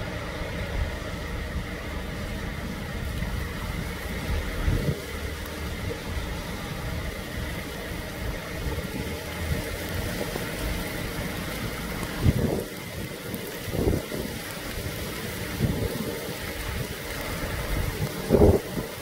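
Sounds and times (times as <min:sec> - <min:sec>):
fire engine idling: 0:00.0 - 0:19.0
wind buffeting microphone: 0:00.4 - 0:19.0.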